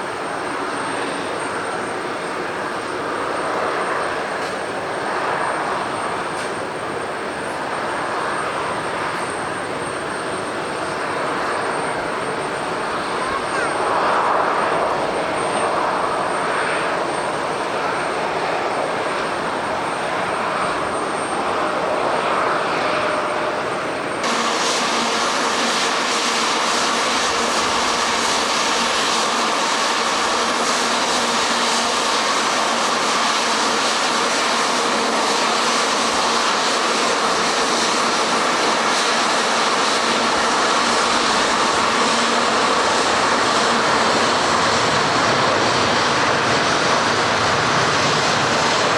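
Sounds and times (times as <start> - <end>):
jet airliner engines: 0.0 - 48.9.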